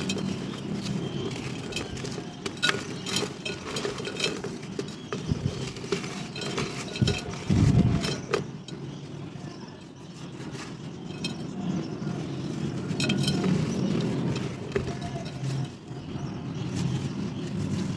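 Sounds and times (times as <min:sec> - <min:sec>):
dried mud and clay crunching: 0:00.0 - 0:17.9.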